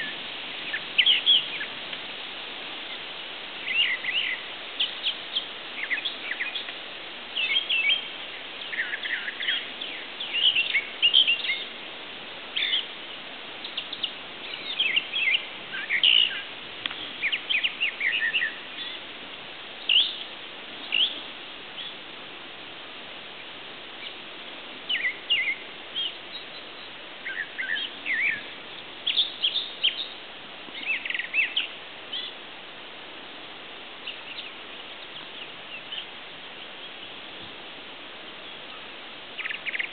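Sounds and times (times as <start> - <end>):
songbirds chirping and trilling: 0.0 - 39.9
steady hiss: 0.0 - 39.9.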